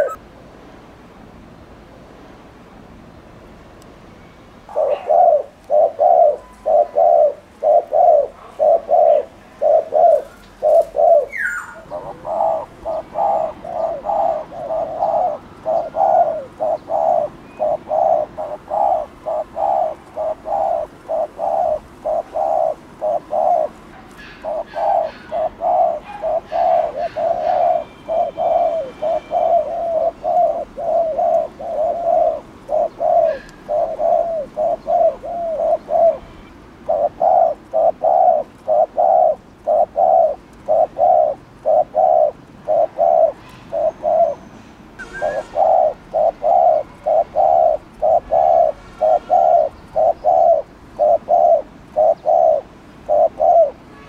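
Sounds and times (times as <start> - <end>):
dove cooing: 0.0 - 0.2, 4.7 - 53.9.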